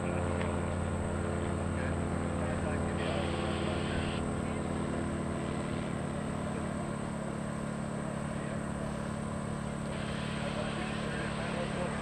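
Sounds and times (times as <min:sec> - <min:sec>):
light plane engine droning: 0:00.0 - 0:12.0.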